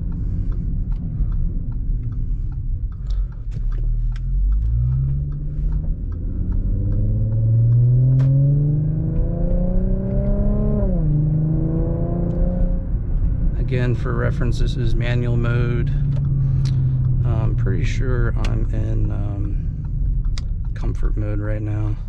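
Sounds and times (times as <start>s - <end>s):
car exhaust accelerating: 0.0s - 22.0s.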